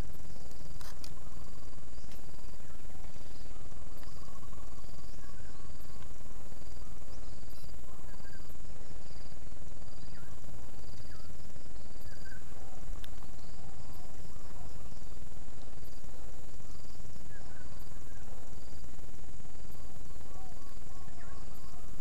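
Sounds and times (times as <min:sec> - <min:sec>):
insect drone: 0:00.0 - 0:22.0
low rumble on microphone: 0:00.0 - 0:22.0
pulsing chirp: 0:00.0 - 0:22.0
bird chirps: 0:01.0 - 0:18.4, 0:19.7 - 0:22.0.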